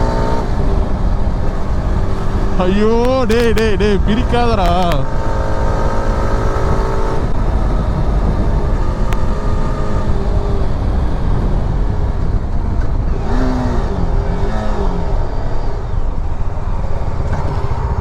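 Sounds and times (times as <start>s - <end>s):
motorcycle engine revving: 0.0s - 18.0s
wind buffeting microphone: 0.0s - 18.0s.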